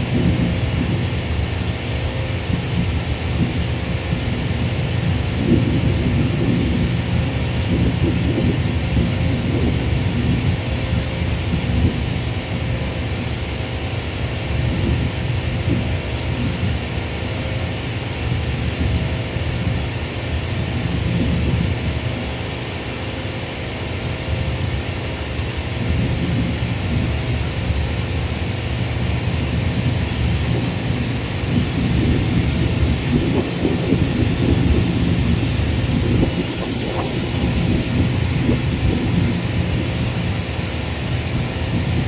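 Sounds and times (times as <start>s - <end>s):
distant jet engines rumbling: 0.0s - 42.0s.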